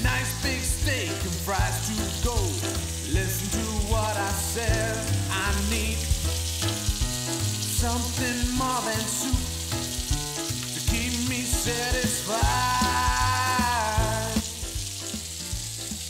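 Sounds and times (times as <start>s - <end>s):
background music with bass: 0.0s - 16.0s
bacon sizzling in a skillet: 0.0s - 16.0s.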